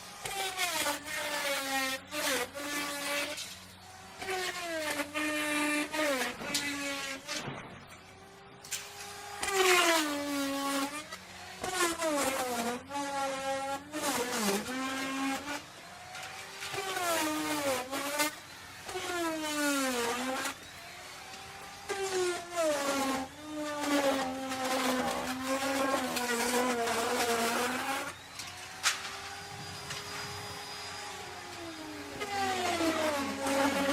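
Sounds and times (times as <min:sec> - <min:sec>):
wood router cutting wood: 0:00.0 - 0:33.9.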